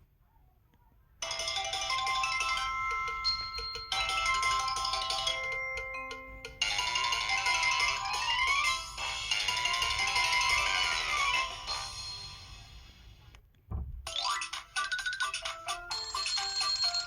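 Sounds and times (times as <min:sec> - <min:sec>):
phone ringtone chime melody: 0:01.2 - 0:12.9, 0:14.1 - 0:17.0.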